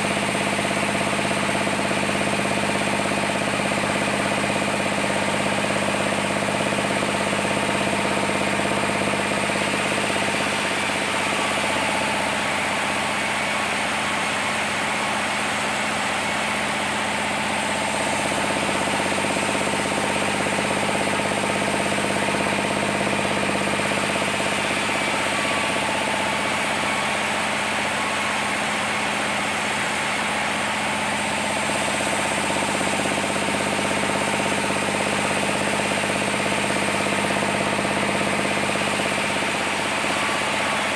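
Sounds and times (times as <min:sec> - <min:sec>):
sawmill machinery droning: 0:00.0 - 0:40.9.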